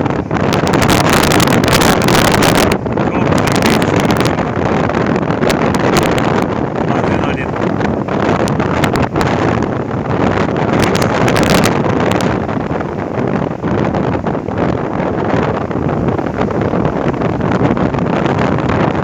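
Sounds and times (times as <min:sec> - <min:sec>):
sea surf breaking: 0:00.0 - 0:18.9
wind buffeting microphone: 0:00.0 - 0:19.0.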